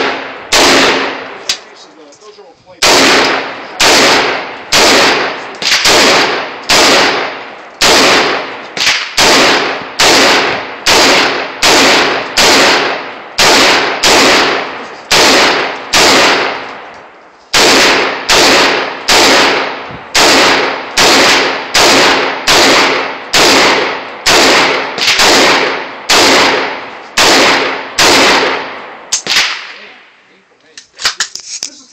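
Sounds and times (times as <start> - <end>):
rifle shots: 0.0 - 1.8, 2.8 - 16.9, 17.5 - 30.1.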